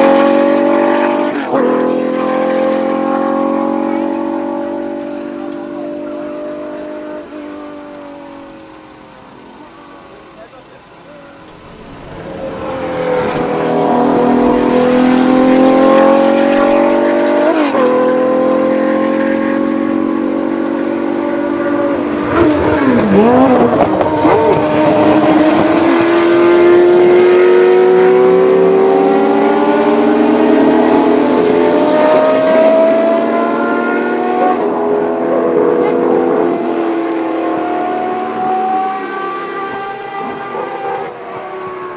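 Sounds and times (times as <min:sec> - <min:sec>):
gear changes: 0:00.0 - 0:35.0
race car engine accelerating: 0:00.0 - 0:41.9.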